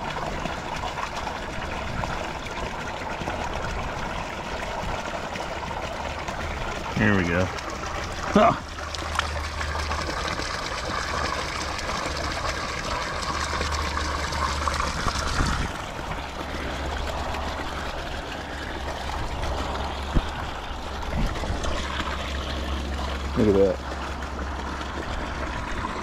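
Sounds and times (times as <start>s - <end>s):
water pouring into pond: 0.0s - 26.0s.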